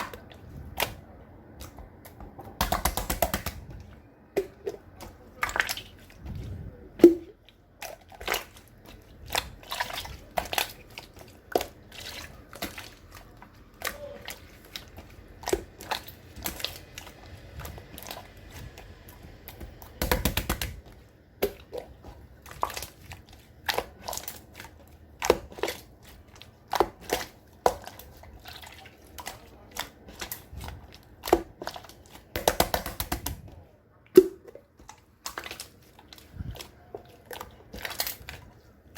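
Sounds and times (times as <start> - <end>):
slime squished by hand: 0.0 - 38.8.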